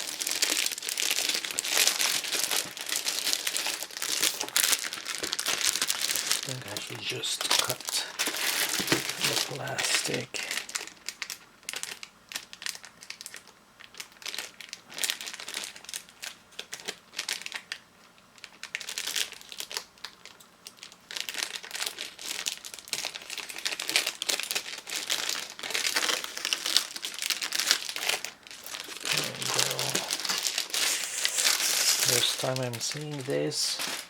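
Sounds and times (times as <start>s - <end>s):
plastic packaging crinkling: 0.0s - 34.0s.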